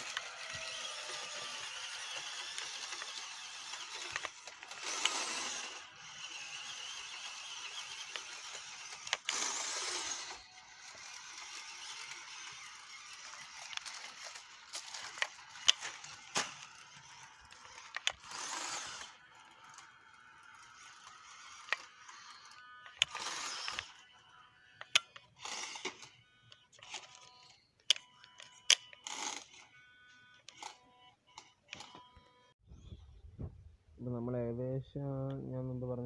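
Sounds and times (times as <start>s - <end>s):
rc truck motor whirring: 0.0s - 33.2s.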